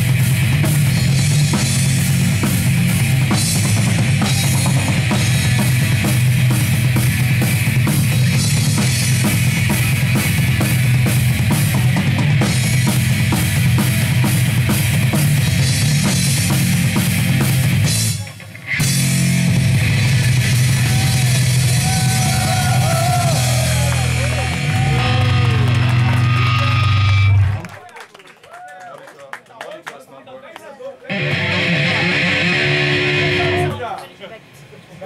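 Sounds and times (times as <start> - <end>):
heavy metal band playing: 0.0 - 27.5, 31.1 - 33.9
bending lead guitar: 0.0 - 27.6, 31.1 - 33.9.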